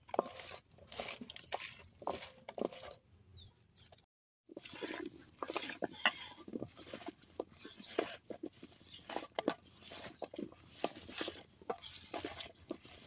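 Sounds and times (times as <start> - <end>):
wet squishes of hand mixing fruit: 0.0 - 3.1, 4.5 - 13.0.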